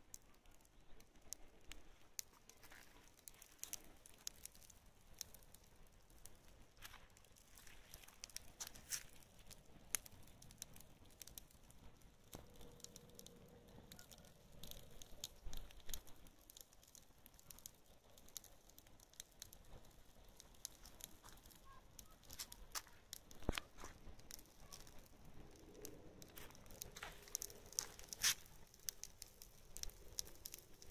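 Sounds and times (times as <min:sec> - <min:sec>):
fire crackling: 0:00.0 - 0:30.9
hay burning: 0:00.0 - 0:30.9.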